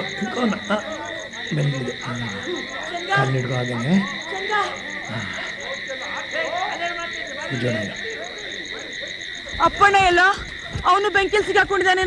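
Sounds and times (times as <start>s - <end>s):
people grunting and crying out: 0.0s - 10.9s
crickets and frogs chorus: 0.0s - 12.0s.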